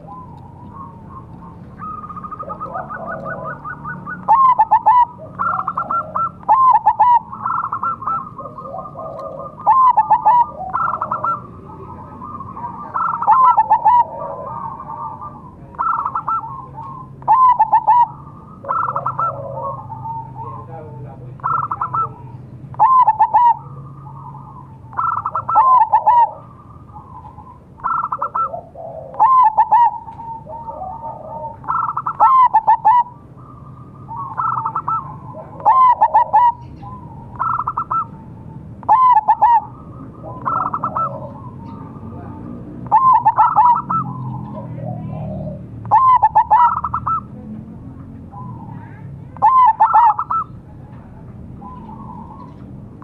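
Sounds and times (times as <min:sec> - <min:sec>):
dove cooing: 0:00.0 - 0:47.5, 0:48.2 - 0:53.0
faint coos of other doves: 0:00.0 - 0:47.5, 0:48.3 - 0:53.0.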